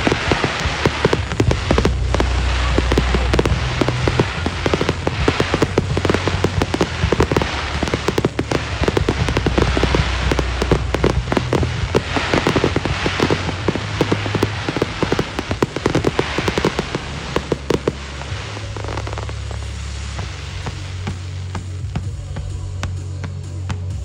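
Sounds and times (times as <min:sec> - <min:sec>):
fireworks crackling and popping: 0:00.0 - 0:24.0
low steady tones: 0:00.0 - 0:24.0.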